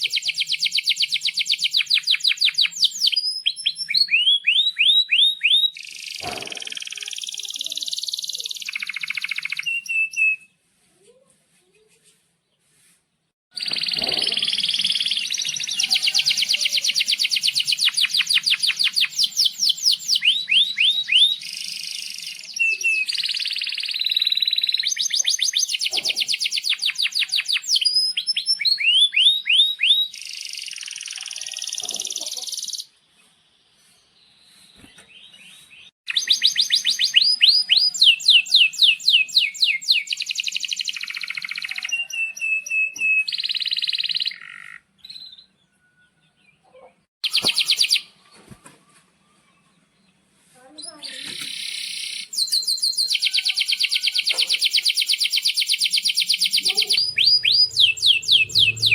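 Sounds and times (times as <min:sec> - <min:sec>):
canary singing trills: 0:00.0 - 0:10.5, 0:13.5 - 0:32.9, 0:35.2 - 0:48.2, 0:50.8 - 0:58.9.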